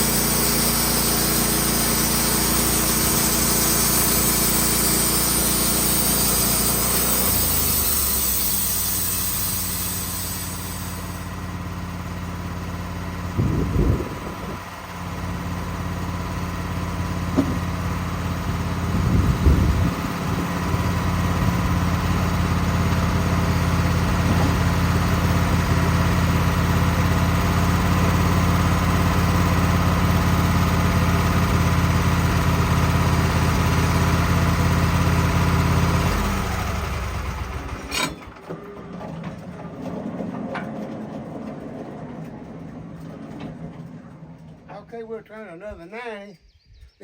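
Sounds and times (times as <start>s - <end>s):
band sawmill sawing log: 0.0s - 45.0s.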